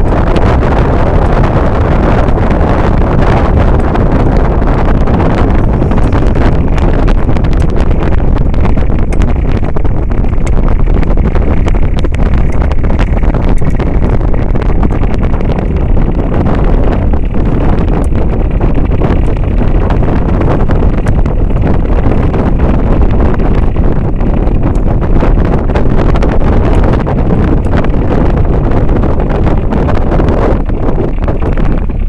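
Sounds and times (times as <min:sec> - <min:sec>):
boat engine running: 0:00.0 - 0:32.0
wind buffeting microphone: 0:00.0 - 0:32.0.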